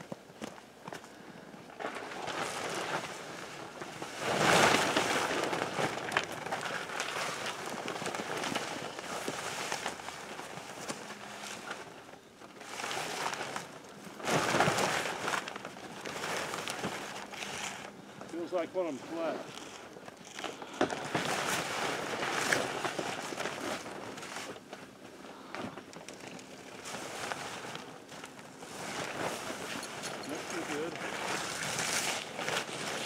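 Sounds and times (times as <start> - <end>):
nylon tent fabric rustling: 1.7 - 33.0.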